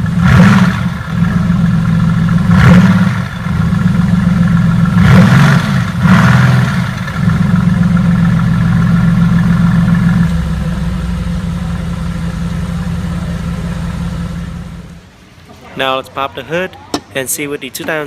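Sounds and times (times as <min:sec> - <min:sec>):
car engine idling and revving: 0:00.0 - 0:15.2.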